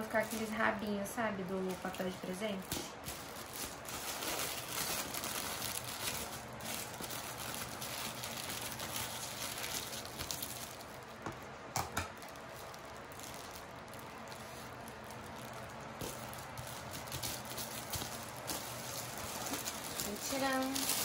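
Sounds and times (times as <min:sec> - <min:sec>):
foil gift wrap crinkling: 0:00.0 - 0:21.0.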